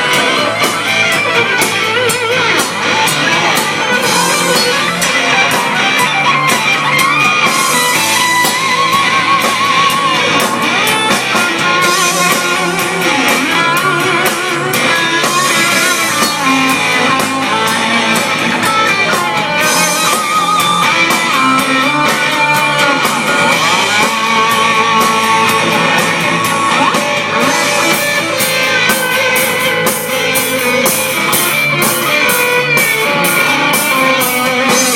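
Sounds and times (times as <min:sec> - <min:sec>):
loud rock music: 0:00.0 - 0:34.9.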